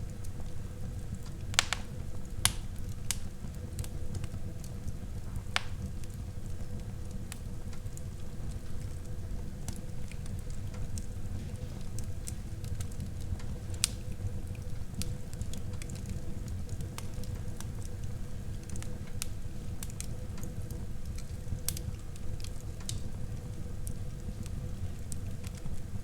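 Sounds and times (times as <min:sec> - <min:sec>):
fire flames rumbling: 0:00.0 - 0:26.0
logs crackling and popping: 0:00.1 - 0:26.0.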